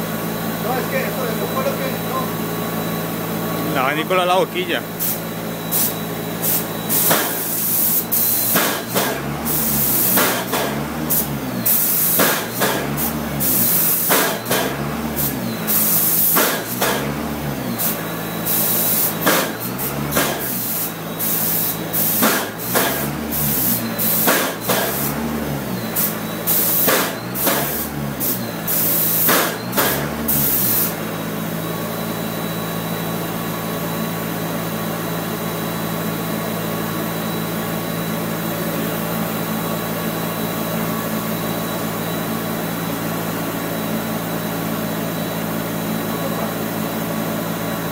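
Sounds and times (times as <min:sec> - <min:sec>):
ventilation hum: 0:00.0 - 0:47.0.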